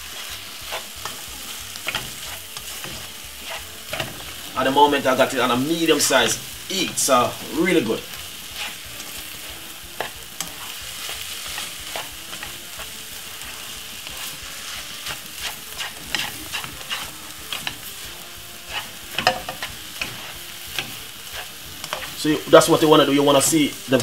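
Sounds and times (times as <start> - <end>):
spatula scraping a frying pan: 0.0 - 23.9
frying sizzle: 0.0 - 24.0.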